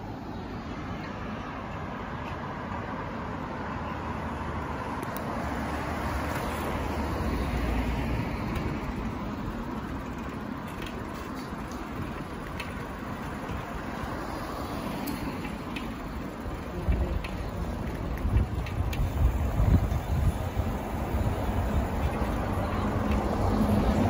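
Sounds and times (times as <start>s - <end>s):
city traffic hiss: 0.0s - 24.0s
low traffic rumble: 0.0s - 24.0s.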